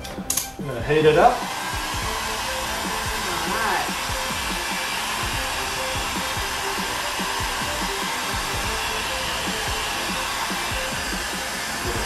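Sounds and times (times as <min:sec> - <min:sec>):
heat gun blowing: 0:01.0 - 0:12.0.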